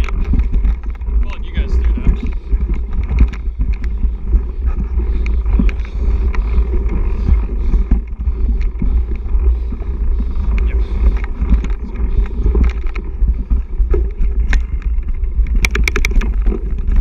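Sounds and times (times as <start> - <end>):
bike rattling and knocking: 0.0 - 17.0
wind rumble on microphone: 0.0 - 17.0.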